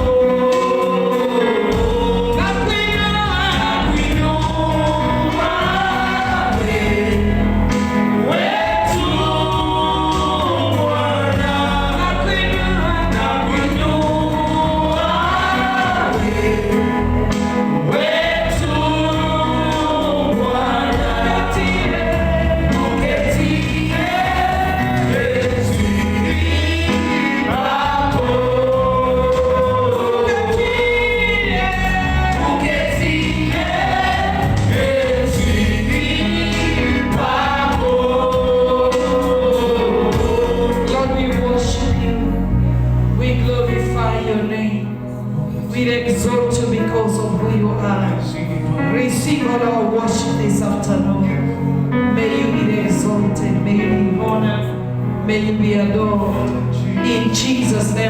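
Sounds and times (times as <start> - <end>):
congregation singing worship song: 0.0 - 58.0
instrumental accompaniment: 0.0 - 58.0.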